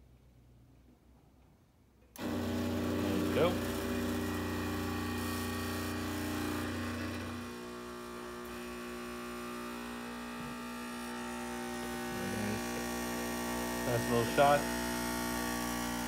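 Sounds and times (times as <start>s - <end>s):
espresso machine pump humming: 2.2s - 16.0s.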